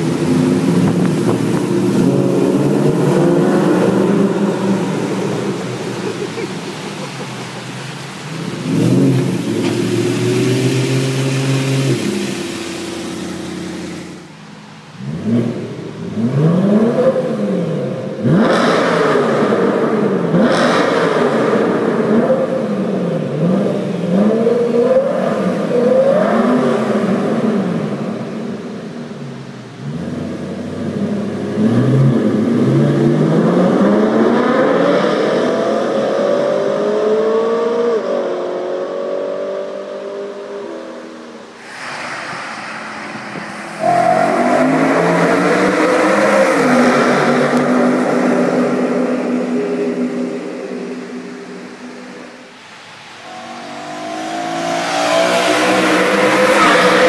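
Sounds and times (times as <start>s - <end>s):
car engine revving hard: 0.0s - 14.2s, 14.9s - 57.0s.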